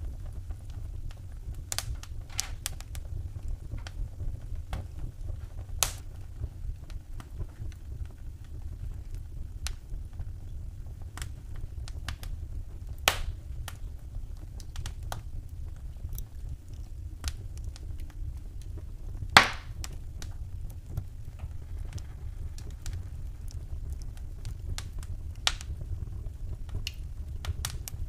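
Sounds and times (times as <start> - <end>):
fire crackling in a fireplace: 0.0 - 28.0
sharp fire pops: 0.0 - 28.0.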